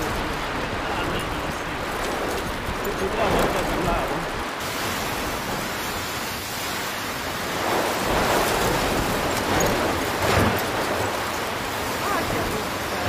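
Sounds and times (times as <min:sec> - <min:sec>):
gusting wind: 0:00.0 - 0:13.0
heavy rain pouring: 0:00.0 - 0:13.0.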